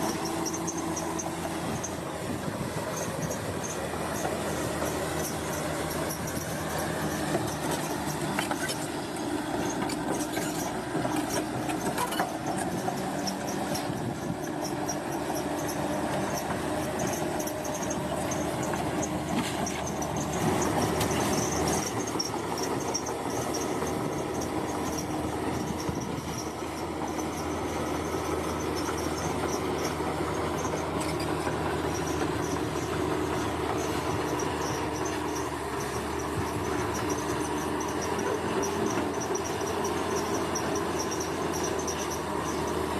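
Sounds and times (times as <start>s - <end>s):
bulldozer diesel engine running: 0.0s - 42.9s
steel tracks clanking and squealing: 0.0s - 42.9s.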